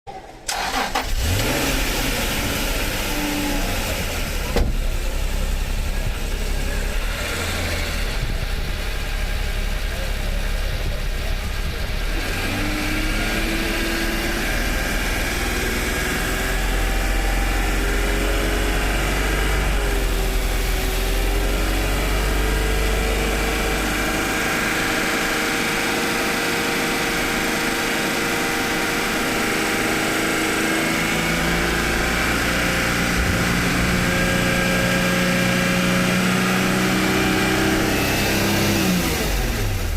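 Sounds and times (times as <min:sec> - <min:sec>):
car engine starting and idling: 0:00.1 - 0:39.9.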